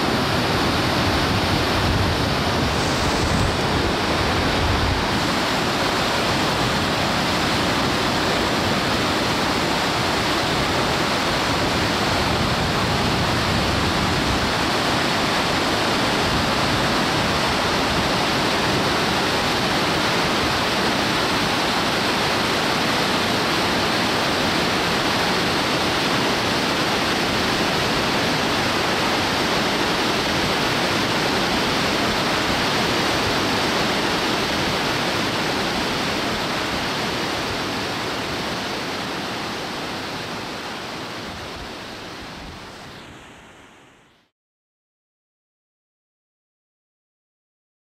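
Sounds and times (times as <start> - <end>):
river rapids rushing: 0.0 - 44.0.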